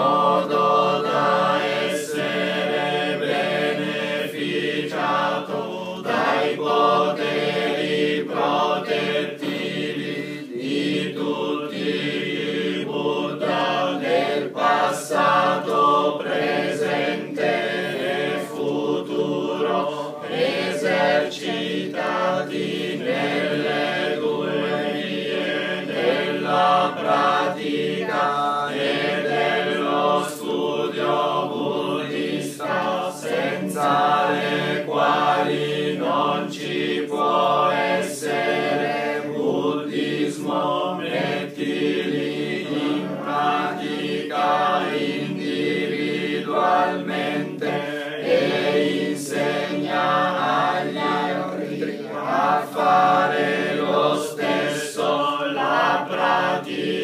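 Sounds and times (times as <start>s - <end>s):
group chanting in unison: 0.0s - 57.0s.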